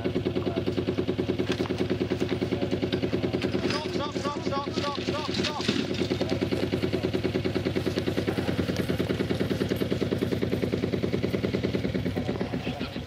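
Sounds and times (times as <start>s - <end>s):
engine running with rapid throb: 0.0s - 13.0s.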